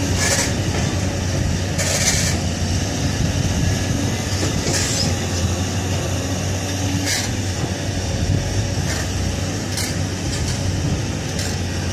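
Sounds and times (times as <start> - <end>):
diesel engine running: 0.0 - 11.9.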